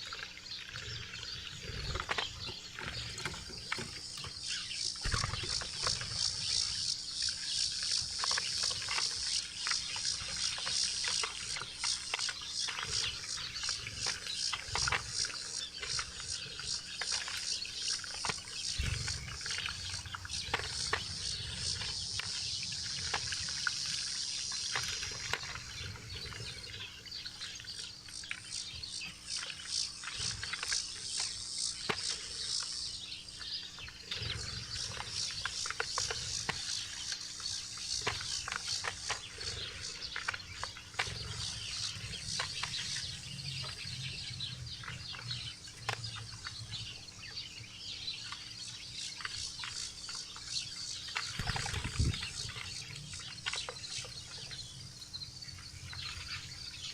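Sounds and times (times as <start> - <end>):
small birds twittering: 0.0 - 56.9.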